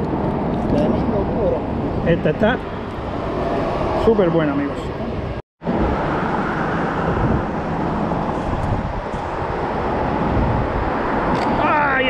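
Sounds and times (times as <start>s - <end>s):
steady outdoor rushing noise: 0.0s - 12.0s.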